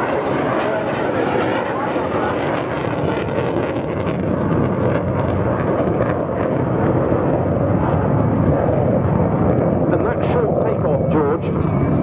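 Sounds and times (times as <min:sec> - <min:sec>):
jet engine roaring with crackles: 0:00.0 - 0:12.0.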